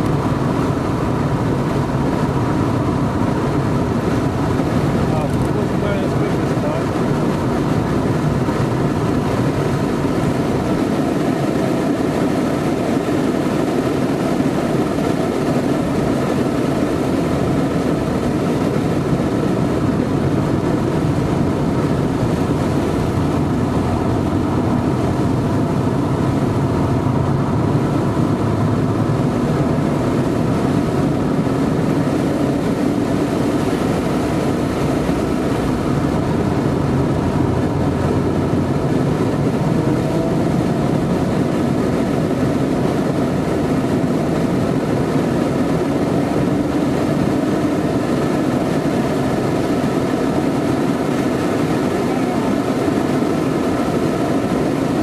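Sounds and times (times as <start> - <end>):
car engine running hard: 0.0 - 55.0
road and wind noise: 0.0 - 55.0.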